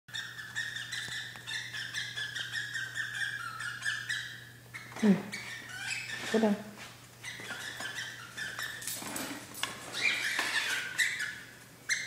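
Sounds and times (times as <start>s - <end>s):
hen chirping rapidly: 0.1s - 6.3s, 7.2s - 8.8s, 9.9s - 12.0s.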